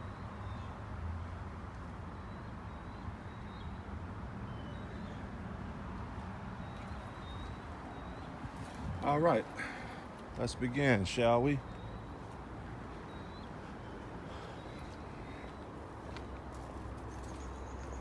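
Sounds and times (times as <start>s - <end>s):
distant road traffic rumble: 0.0s - 18.0s.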